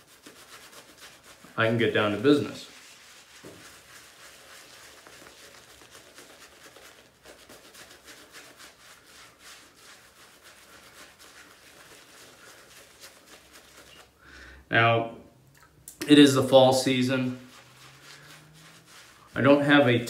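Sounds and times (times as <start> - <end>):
shaving brush scratching over lather: 0.0 - 14.2, 16.0 - 20.0.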